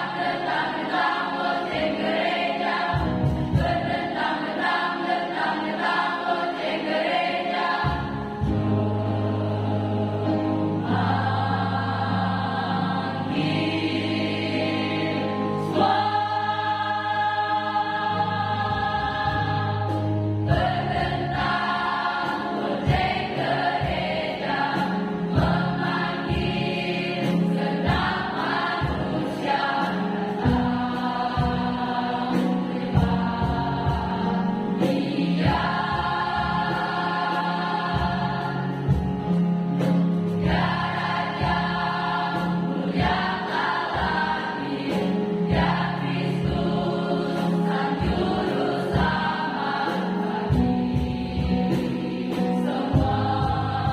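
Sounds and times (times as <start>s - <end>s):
choir singing a hymn: 0.0s - 53.9s.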